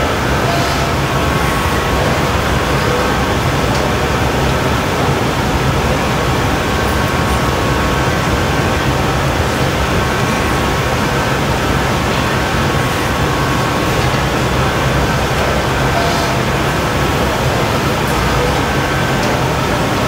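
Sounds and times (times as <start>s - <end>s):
roar of gas burners and ventilation: 0.0s - 20.0s.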